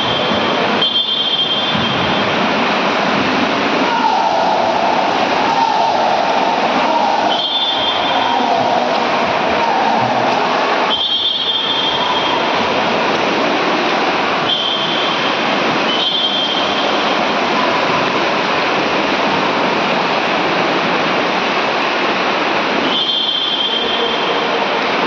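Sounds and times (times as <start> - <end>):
swimmers splashing in indoor pool: 0.0 - 25.0.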